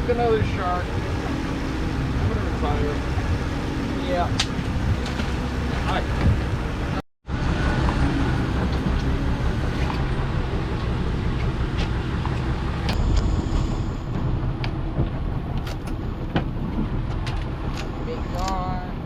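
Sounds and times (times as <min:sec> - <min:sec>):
boat rumble and hiss: 0:00.0 - 0:19.0.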